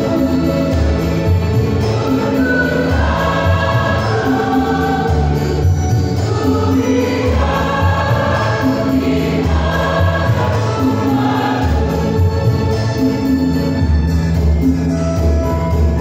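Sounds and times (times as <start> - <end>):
church choir singing: 0.0 - 13.8.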